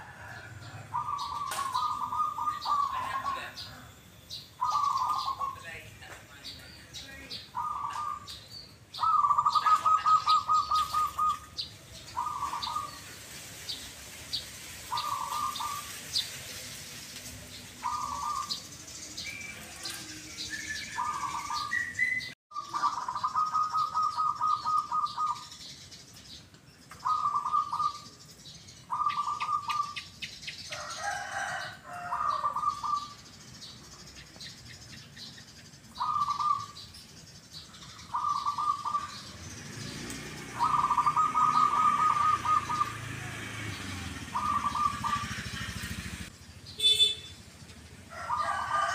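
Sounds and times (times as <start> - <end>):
doves cooing: 0.0 - 4.0, 4.6 - 5.8, 7.3 - 25.7, 26.9 - 28.2, 28.9 - 33.3, 35.9 - 36.8, 37.9 - 47.0, 48.1 - 48.9.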